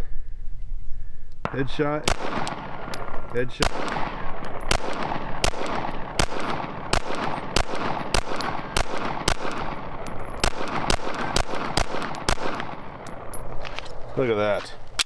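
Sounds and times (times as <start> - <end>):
handgun shots: 1.4 - 14.0.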